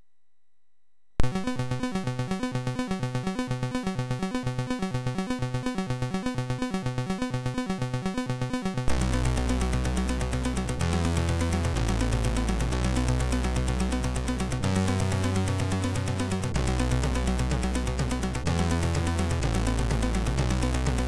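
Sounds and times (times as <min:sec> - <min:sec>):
chiptune synthesizer music: 0:01.2 - 0:21.0.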